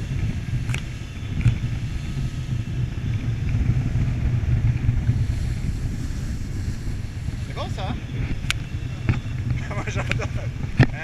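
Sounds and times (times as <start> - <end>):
motorboat engine rumbling: 0.0 - 11.0.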